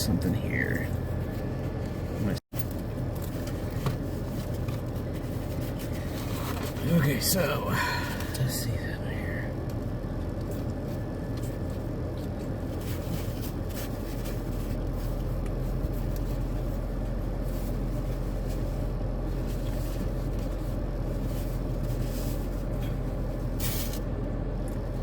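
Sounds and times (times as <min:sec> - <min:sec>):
car engine humming: 0:00.0 - 0:25.0.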